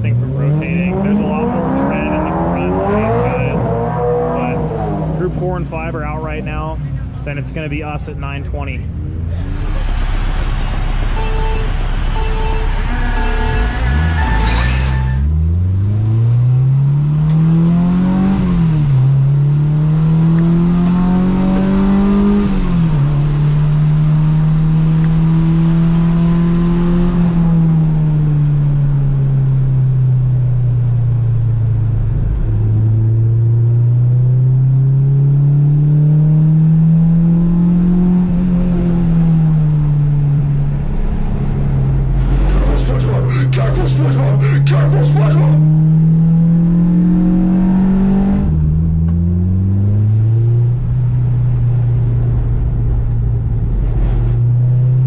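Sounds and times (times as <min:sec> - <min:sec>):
car engine revving with upshifts: 0:00.0 - 0:07.5, 0:08.6 - 0:30.8, 0:31.6 - 0:55.0.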